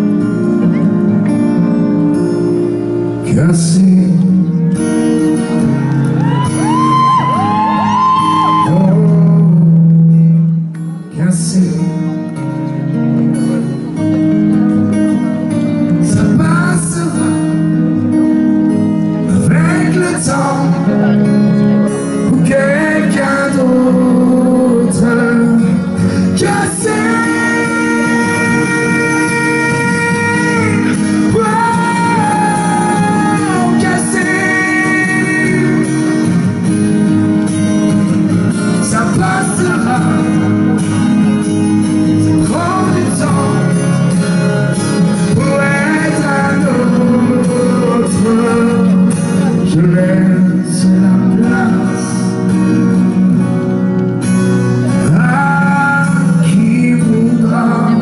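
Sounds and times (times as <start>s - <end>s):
band with guitar: 0.0s - 58.0s
man singing into microphone: 3.0s - 12.4s, 15.9s - 36.8s, 38.4s - 41.2s, 41.8s - 53.9s, 54.9s - 58.0s.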